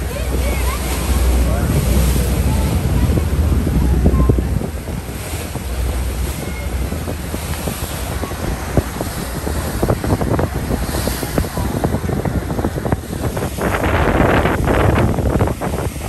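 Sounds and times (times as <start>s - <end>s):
low rumble: 0.0s - 16.0s
waves and water rushing: 0.0s - 16.0s
wind buffeting microphone: 0.0s - 16.0s.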